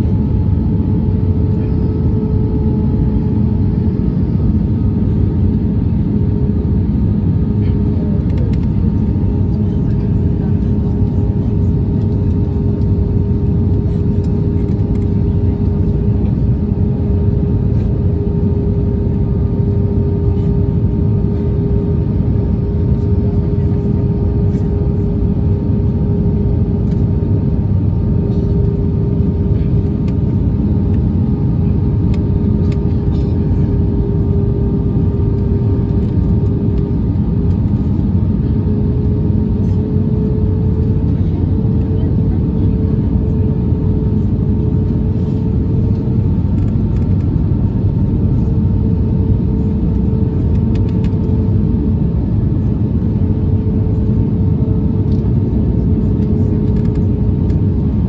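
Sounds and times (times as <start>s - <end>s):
jet engine hum: 0.0s - 58.0s
rumble of airflow: 0.0s - 58.0s.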